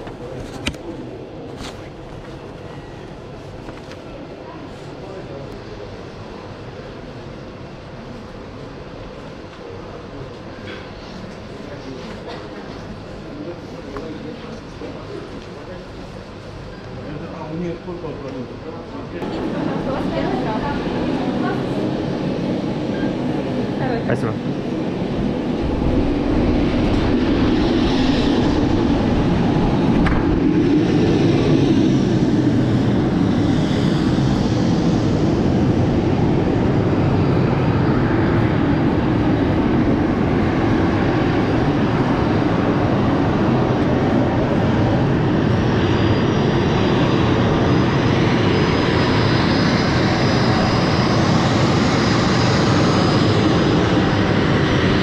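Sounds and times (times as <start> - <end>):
jet turbine noise: 0.0 - 55.0.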